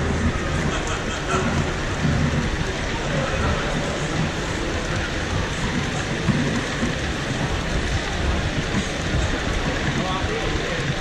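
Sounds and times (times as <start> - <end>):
exhibition hall crowd din: 0.0 - 11.0.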